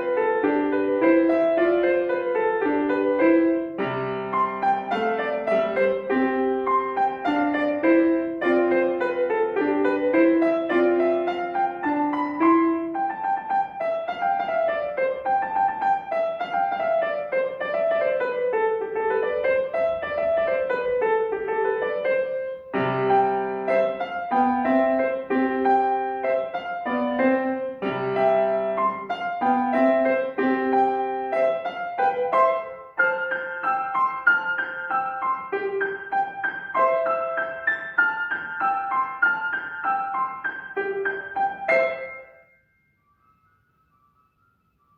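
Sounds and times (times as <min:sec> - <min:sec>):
solo piano playing: 0:00.0 - 0:44.9.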